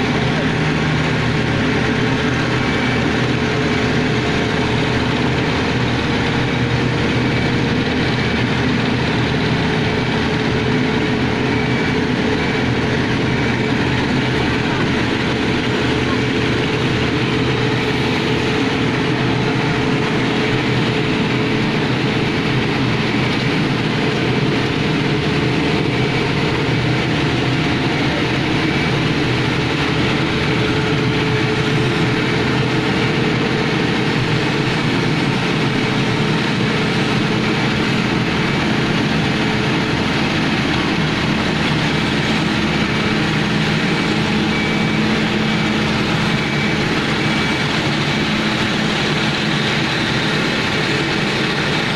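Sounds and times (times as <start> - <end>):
heavy engine droning: 0.0 - 51.9.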